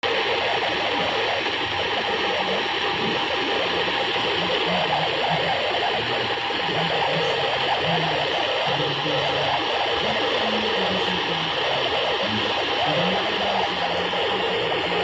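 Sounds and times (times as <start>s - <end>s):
radio static hissing: 0.0s - 15.0s.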